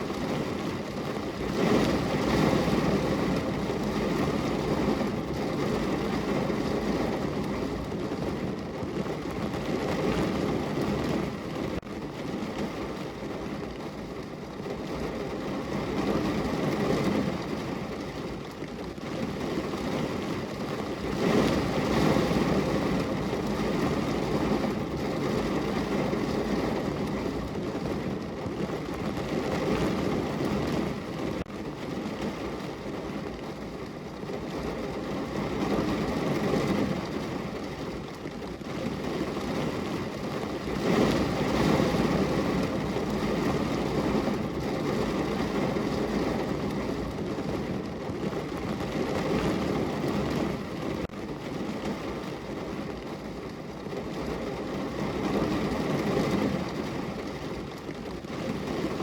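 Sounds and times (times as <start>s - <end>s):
heavy rain drumming on car roof: 0.0s - 59.0s.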